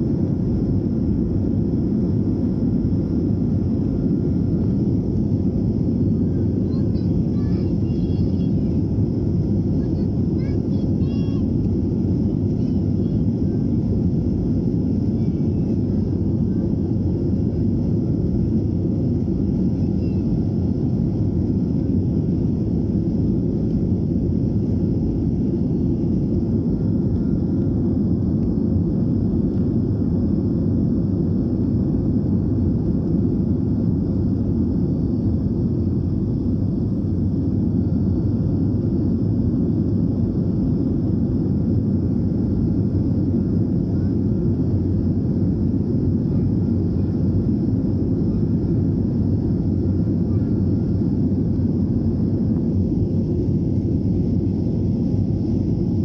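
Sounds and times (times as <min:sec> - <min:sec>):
faint high engine whine: 0:00.0 - 0:56.0
jet engine cabin rumble: 0:00.0 - 0:56.0.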